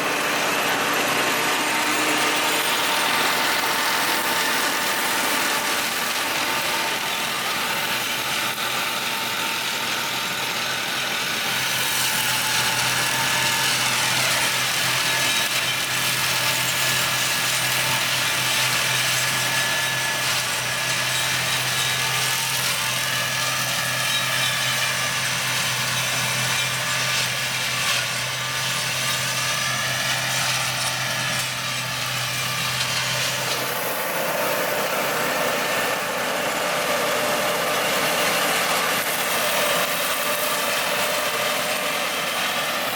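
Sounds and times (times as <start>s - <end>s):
tractor flail mower running: 0.0s - 42.9s.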